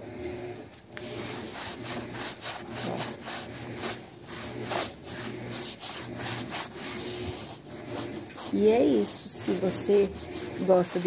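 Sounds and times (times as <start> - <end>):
sponge scrubbing fabric: 1.0 - 11.0.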